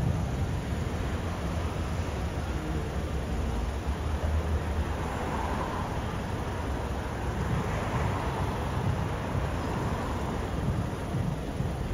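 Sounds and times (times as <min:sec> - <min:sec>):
city noise: 0:00.0 - 0:11.9
traffic rumble: 0:00.0 - 0:11.9.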